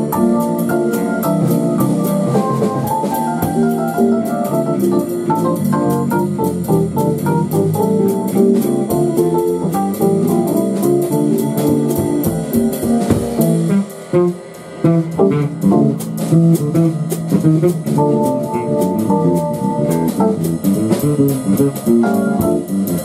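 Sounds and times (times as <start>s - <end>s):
drum kit with cymbals: 0.0s - 23.0s
electric keyboard: 0.0s - 23.0s.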